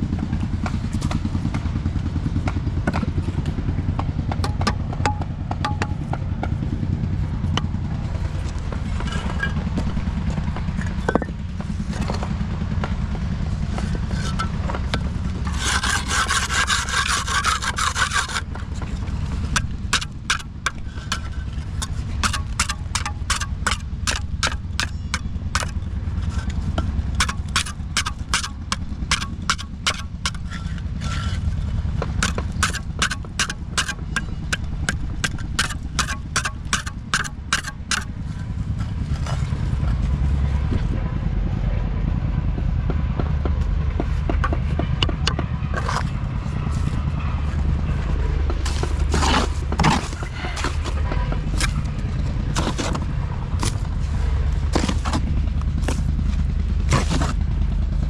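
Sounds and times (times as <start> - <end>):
low machine rumble: 0.0 - 58.0.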